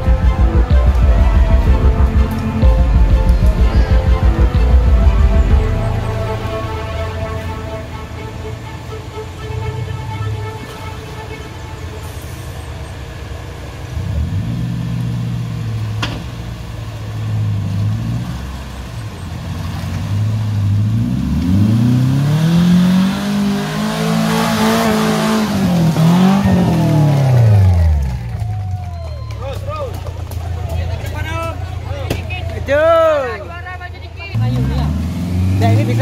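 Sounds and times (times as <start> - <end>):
off-road engine revving: 0.0 - 36.0.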